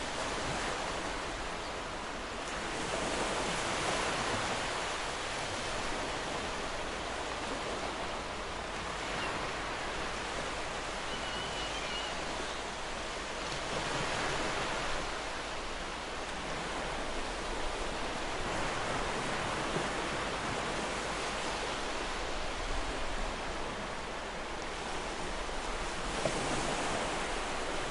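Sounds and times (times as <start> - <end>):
ocean surf washing on beach: 0.0 - 27.9.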